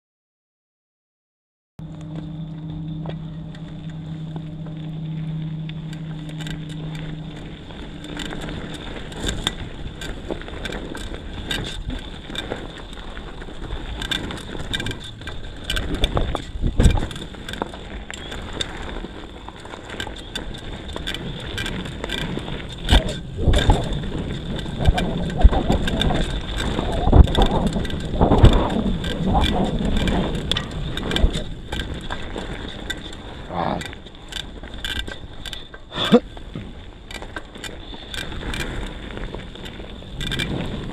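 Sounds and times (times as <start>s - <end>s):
bike clicking and rattling: 1.8s - 40.9s
bike tyres on dirt: 1.8s - 40.9s
low steady hum: 1.8s - 40.9s.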